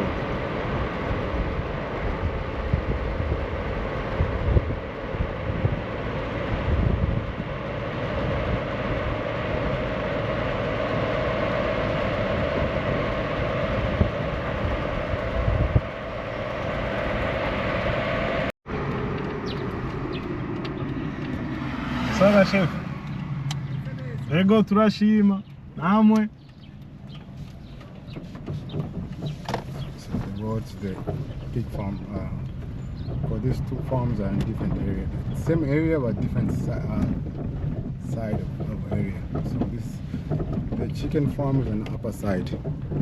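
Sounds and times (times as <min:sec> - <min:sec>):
low rumbling jolts: 0:00.0 - 0:43.0
vehicle engine and road noise: 0:00.0 - 0:43.0.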